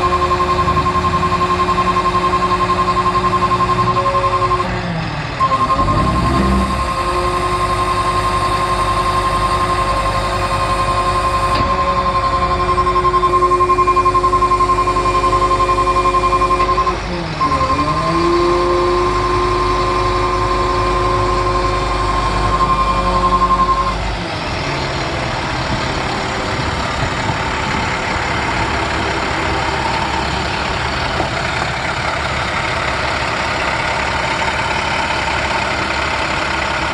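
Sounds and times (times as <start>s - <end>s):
diesel engine running: 0.0s - 36.9s
high whine: 0.0s - 36.9s.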